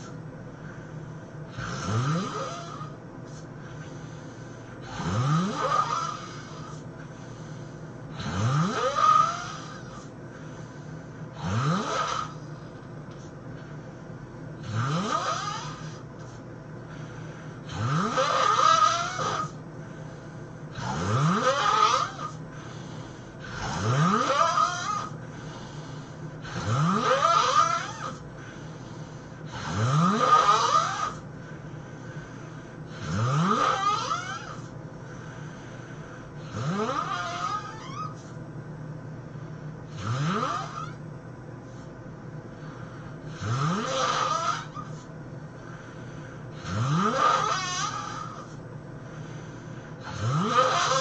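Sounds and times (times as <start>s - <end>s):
person snoring: 0.0s - 10.1s, 11.3s - 12.5s, 14.6s - 38.3s, 39.9s - 41.0s, 42.5s - 51.0s.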